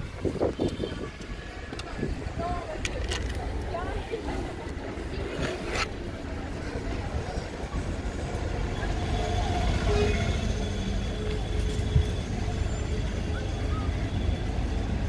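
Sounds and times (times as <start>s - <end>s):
car and street traffic rumble: 0.0s - 15.0s.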